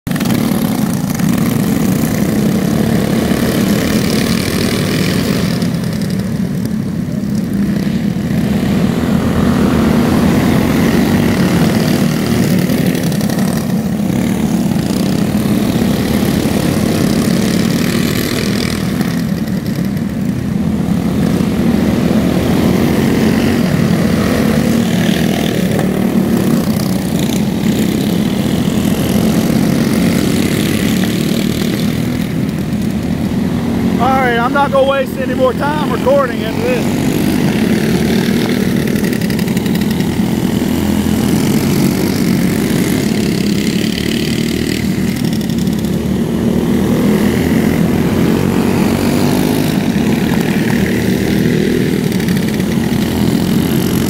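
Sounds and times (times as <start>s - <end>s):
go-kart engines buzzing: 0.1s - 54.0s.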